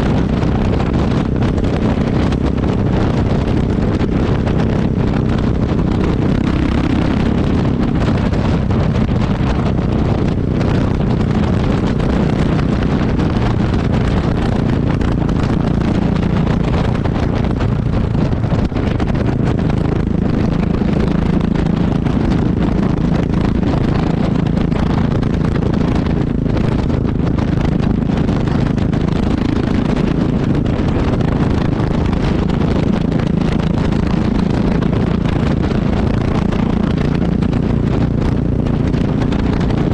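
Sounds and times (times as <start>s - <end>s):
motorcycle engine exhaust: 0.0s - 39.9s
wind on microphone: 0.0s - 39.9s.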